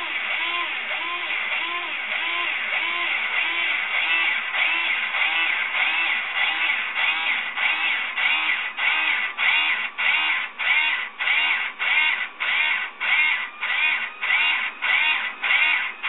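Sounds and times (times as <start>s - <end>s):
pulsing motor whine: 0.0s - 16.0s.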